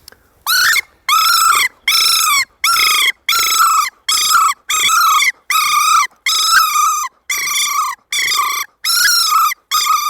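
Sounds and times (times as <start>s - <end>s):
predator call quavering squeals: 0.5s - 10.0s.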